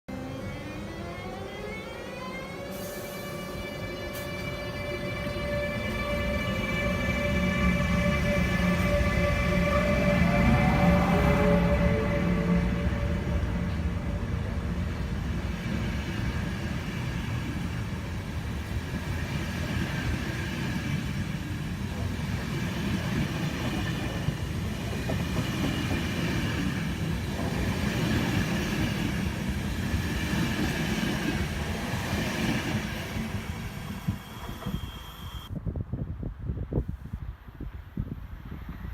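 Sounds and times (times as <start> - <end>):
train wheels rumbling on rail: 0.6 - 35.5.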